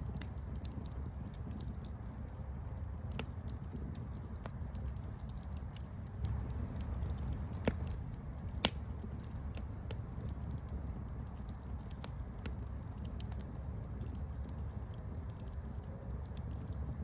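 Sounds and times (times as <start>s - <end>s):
campfire crackling: 0.0s - 17.0s
low rumble of burning: 0.0s - 17.0s
sharp snaps and pops: 0.0s - 17.0s.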